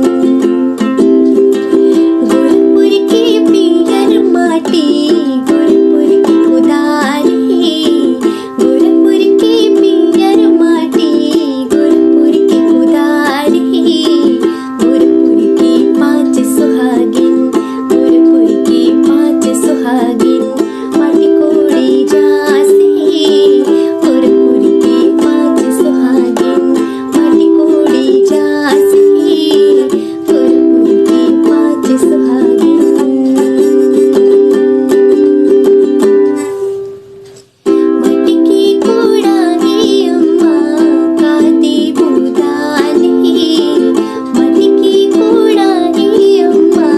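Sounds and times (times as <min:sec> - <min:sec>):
ukulele strumming chords: 0:00.0 - 0:46.9.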